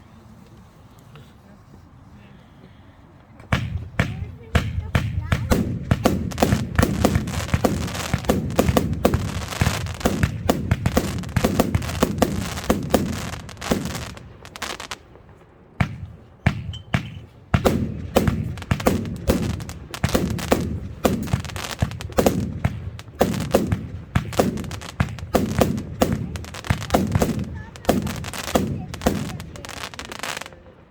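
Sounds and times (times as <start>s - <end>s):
firework cake bangs: 3.4s - 30.9s.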